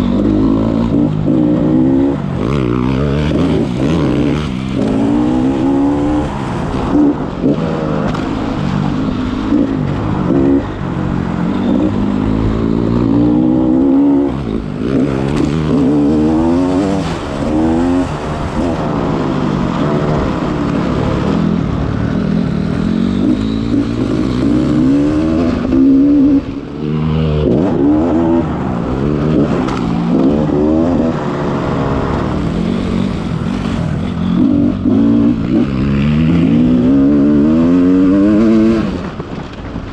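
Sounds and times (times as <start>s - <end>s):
dirt bike engine revving: 0.0s - 39.2s.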